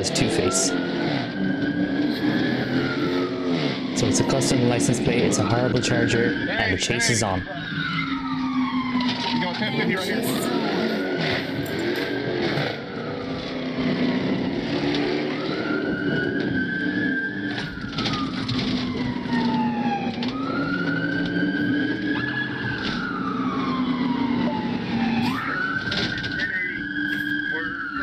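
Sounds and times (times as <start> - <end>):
police siren wailing: 0.0 - 28.0.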